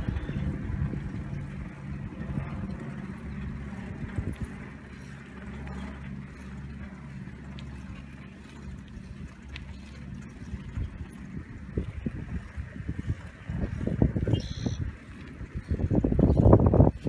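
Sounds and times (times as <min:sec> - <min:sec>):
bicycle rolling on pavement: 0:00.0 - 0:17.0
wind buffeting microphone: 0:00.0 - 0:17.0.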